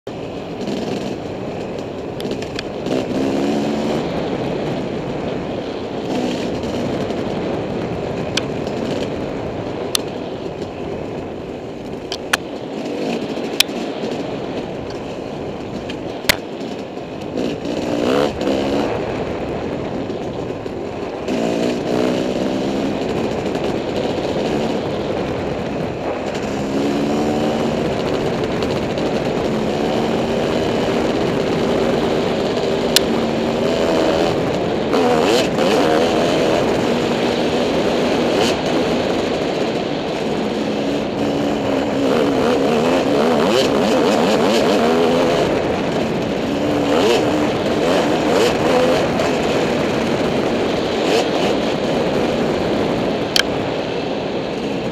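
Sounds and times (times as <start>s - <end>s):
steady rushing noise: 0.0s - 54.9s
dirt bike engine revving: 0.1s - 7.6s, 12.2s - 54.9s.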